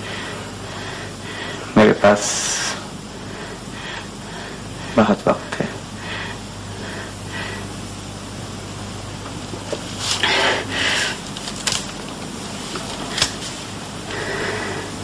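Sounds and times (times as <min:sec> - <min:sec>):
mains hum and hiss: 0:00.0 - 0:15.0.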